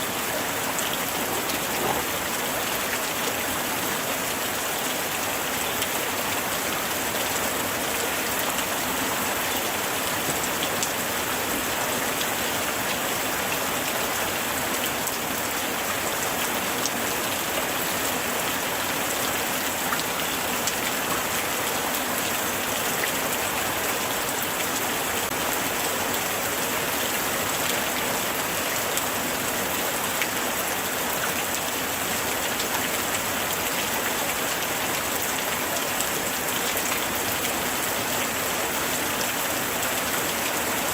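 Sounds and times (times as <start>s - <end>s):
light rain pattering: 0.0s - 40.9s.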